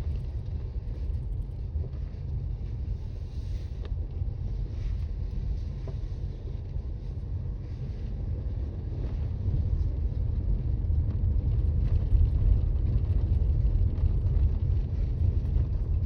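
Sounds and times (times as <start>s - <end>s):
car rumble from inside cabin: 0.0s - 16.0s.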